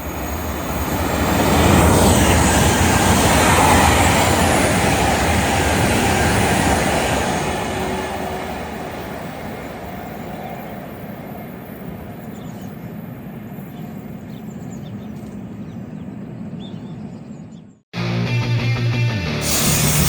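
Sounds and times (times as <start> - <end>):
train rumble: 0.0 - 17.5.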